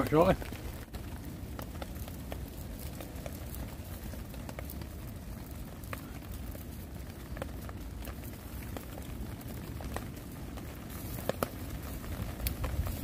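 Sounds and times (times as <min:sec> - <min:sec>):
rain drips ticking on leaves: 0:00.0 - 0:13.0
steady low rumble: 0:00.0 - 0:13.0.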